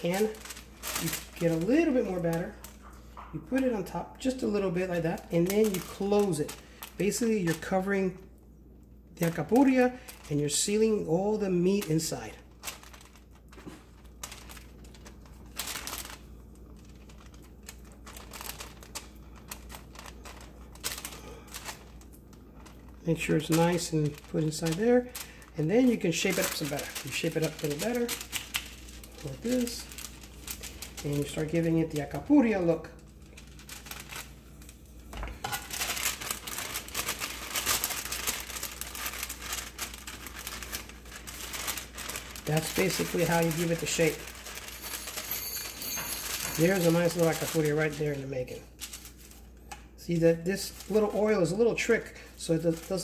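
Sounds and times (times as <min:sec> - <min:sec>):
wax paper crinkling: 0:00.0 - 0:53.0.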